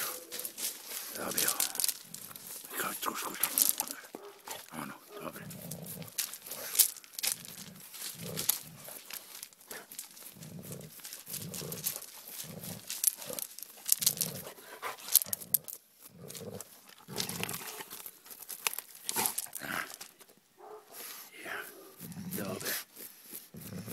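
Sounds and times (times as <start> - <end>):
pebbles clicking and crunching: 0.0 - 20.4.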